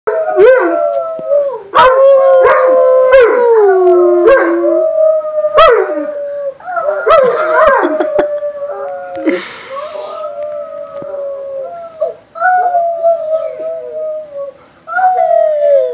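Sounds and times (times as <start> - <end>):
dogs and children howling: 0.1 - 15.9.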